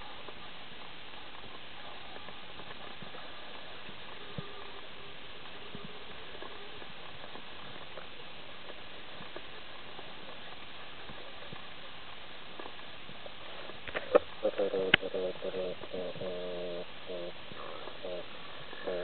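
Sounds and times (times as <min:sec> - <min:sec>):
faint clicks and crackles: 0:00.0 - 0:19.0.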